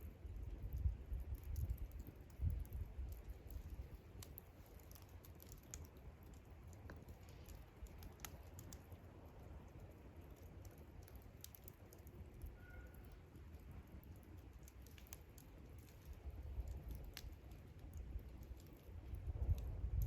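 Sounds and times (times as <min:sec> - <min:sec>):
campfire crackling: 0:00.0 - 0:20.0
fire pops and ticks: 0:00.0 - 0:20.0.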